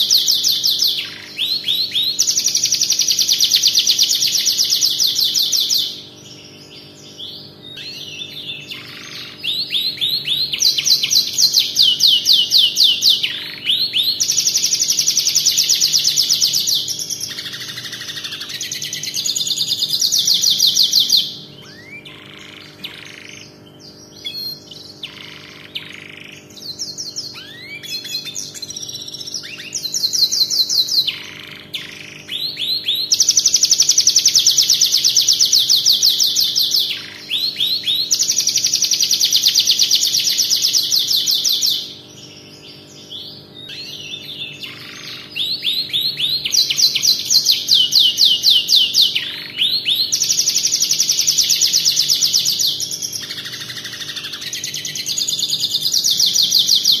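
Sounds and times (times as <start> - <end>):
canary singing fast trills: 0.0 - 57.0.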